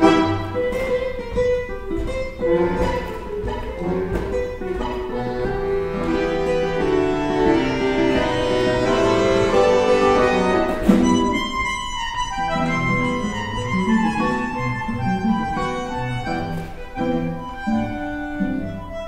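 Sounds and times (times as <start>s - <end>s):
bandoneon: 0.0s - 19.0s
classical guitar: 0.0s - 19.0s.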